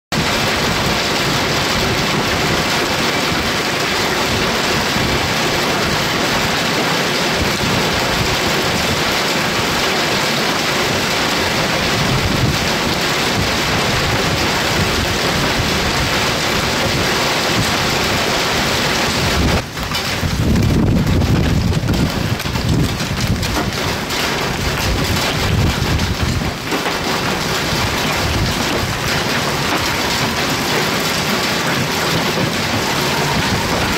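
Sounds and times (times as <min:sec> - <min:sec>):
hail and heavy rain on pavement: 0:00.1 - 0:33.9.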